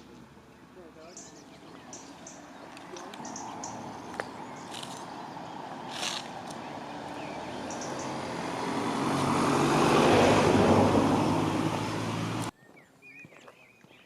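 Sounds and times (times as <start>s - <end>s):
engine approaching and passing: 0.0s - 12.5s.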